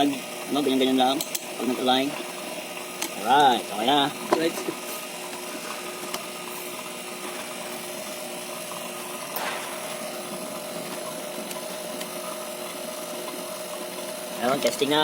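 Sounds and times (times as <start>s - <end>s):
electric fan motor humming: 0.0s - 15.0s.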